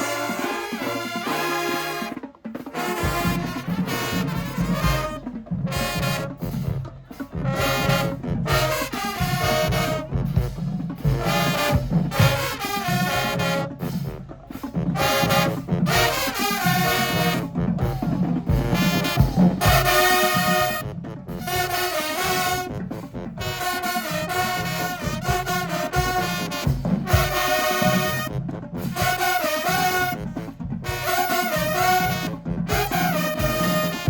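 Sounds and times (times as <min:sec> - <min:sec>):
marching band brass: 0:00.0 - 0:34.0
bass drums: 0:02.9 - 0:34.0.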